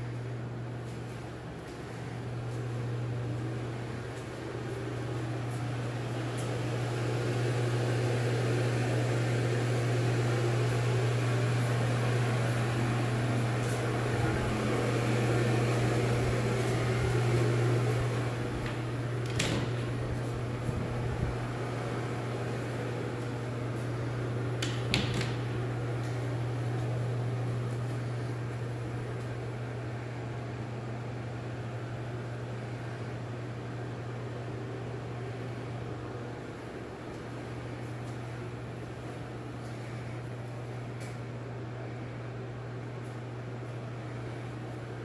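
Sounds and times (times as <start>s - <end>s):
ventilation fan hum: 0.0s - 45.0s.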